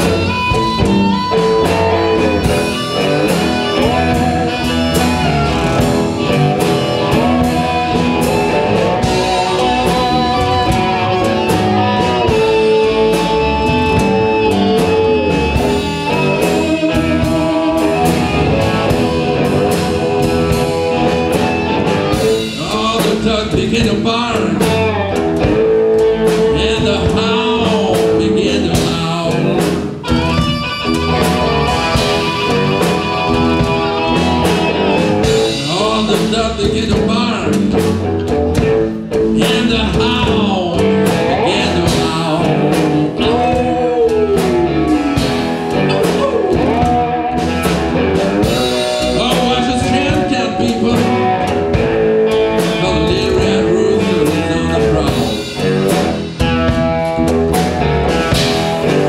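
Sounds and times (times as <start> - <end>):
blues band playing: 0.0 - 59.0
drums: 0.0 - 59.0
slide guitar: 0.0 - 59.0.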